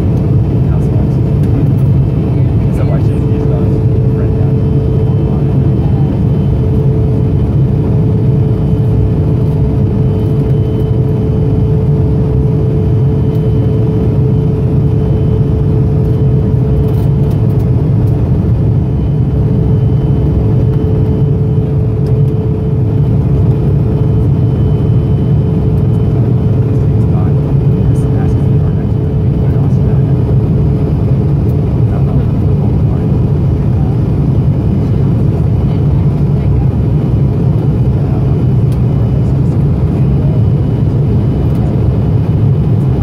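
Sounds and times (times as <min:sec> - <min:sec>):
jet engines low rumble: 0:00.0 - 0:43.0
steady hum: 0:00.0 - 0:43.0.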